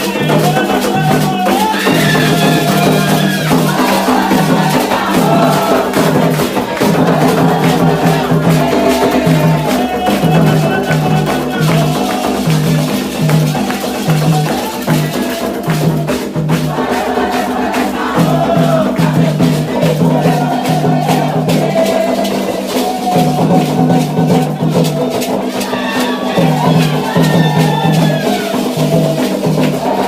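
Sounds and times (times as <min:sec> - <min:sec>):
hand drums beating: 0:00.0 - 0:30.0
rattles shaking: 0:00.0 - 0:30.0
voices singing a chant: 0:00.0 - 0:30.0.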